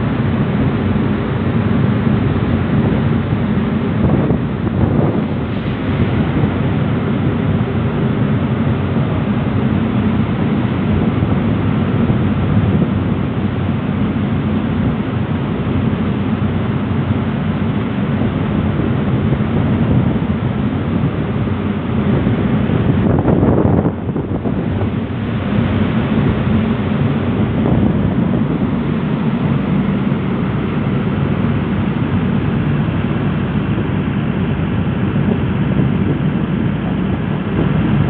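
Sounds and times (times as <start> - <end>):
ferry engines droning: 0.0 - 38.0
water rushing past hull: 0.0 - 38.0
wind buffeting microphone: 0.0 - 38.0.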